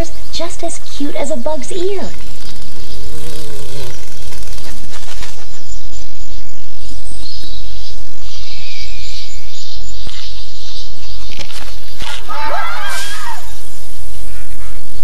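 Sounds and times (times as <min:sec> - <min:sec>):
birds chirping: 0:00.0 - 0:15.0
insects chirping: 0:00.0 - 0:15.0
steady low hum: 0:00.0 - 0:15.0.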